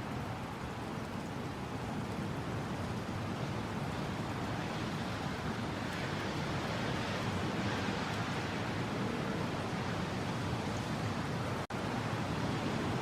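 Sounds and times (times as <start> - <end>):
steady rushing wind: 0.0 - 13.0.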